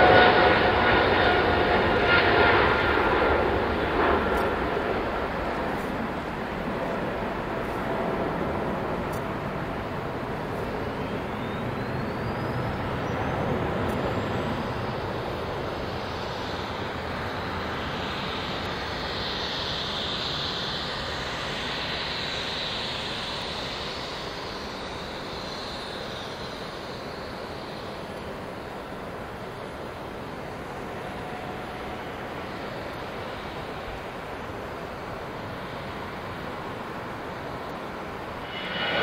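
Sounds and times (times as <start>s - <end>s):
jet engines at take-off power: 0.0s - 39.0s.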